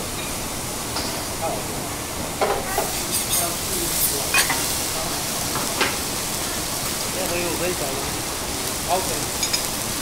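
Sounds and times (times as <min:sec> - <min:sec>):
food sizzling on griddle: 0:00.0 - 0:10.0.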